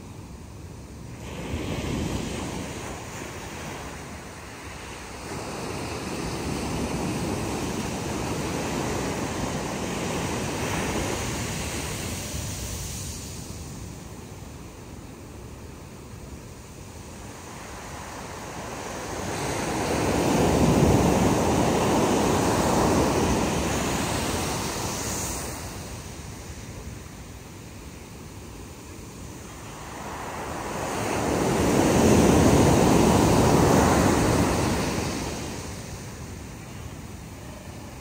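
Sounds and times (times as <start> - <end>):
ocean surf breaking on beach: 0.0 - 38.0.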